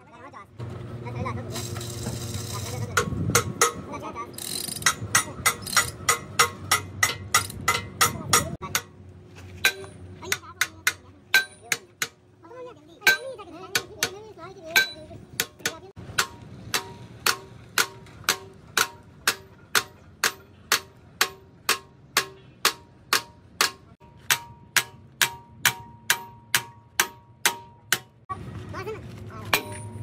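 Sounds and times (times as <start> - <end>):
hammer striking steel: 2.8 - 9.0, 9.6 - 12.2, 13.0 - 28.3, 29.4 - 30.0.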